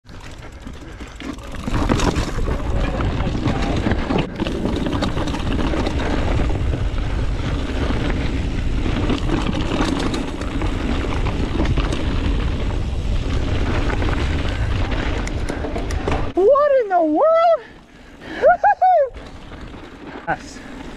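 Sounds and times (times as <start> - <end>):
bike clicks and rattles: 0.0 - 16.4, 17.9 - 20.9
tyres rumbling on dirt trail: 0.0 - 20.9.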